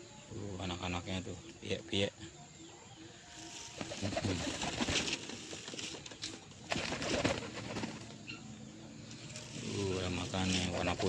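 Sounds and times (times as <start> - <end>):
pigeons cooing: 2.1 - 11.0.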